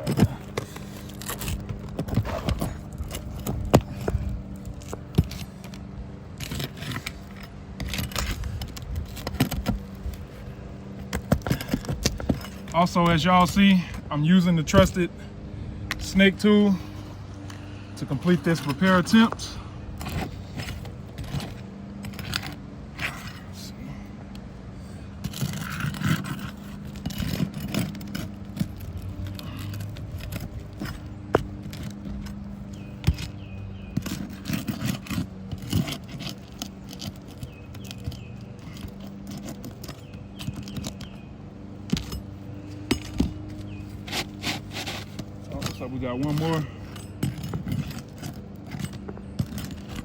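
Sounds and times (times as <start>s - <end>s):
metal tool scraping shingles: 0.0s - 13.8s, 18.0s - 23.5s, 25.2s - 41.2s, 41.8s - 50.0s
steady low hum: 0.0s - 50.0s.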